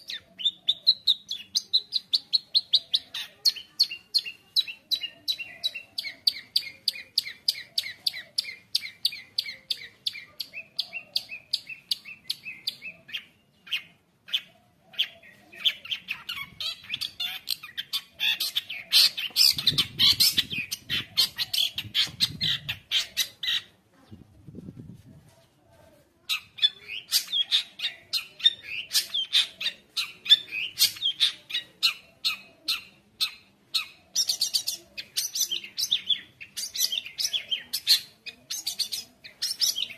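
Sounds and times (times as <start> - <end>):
bird song with sharp chips: 0.0 - 23.7, 26.3 - 39.9
harsh bird chatter: 0.0 - 24.2, 26.3 - 39.9.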